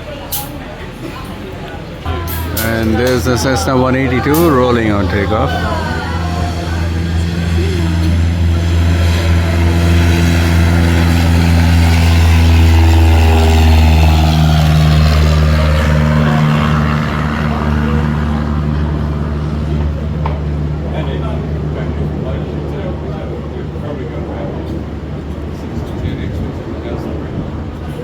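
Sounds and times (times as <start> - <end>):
propeller plane engine drone: 2.1 - 28.0.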